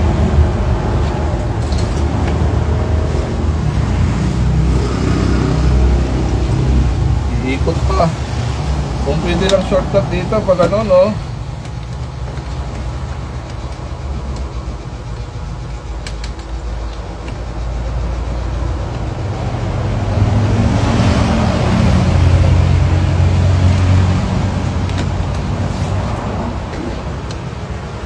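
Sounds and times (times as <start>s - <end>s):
background traffic noise: 0.0s - 28.0s
vehicle engine rumble passing: 0.0s - 28.0s.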